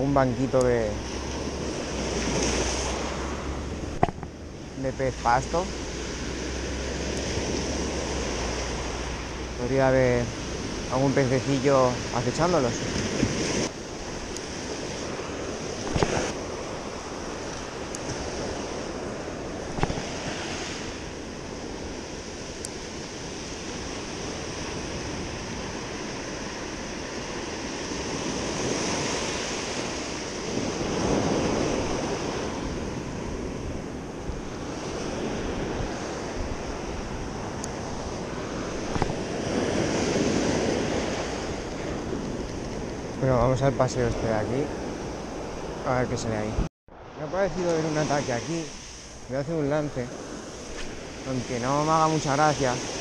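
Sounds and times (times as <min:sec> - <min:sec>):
wind buffeting microphone: 0:00.0 - 0:53.0
waves washing on rocky shore: 0:00.2 - 0:43.4, 0:47.3 - 0:53.0.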